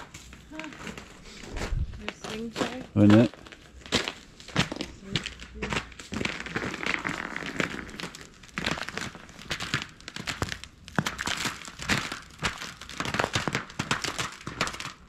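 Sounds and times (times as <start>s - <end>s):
footsteps crunching on ice: 0.0s - 15.0s.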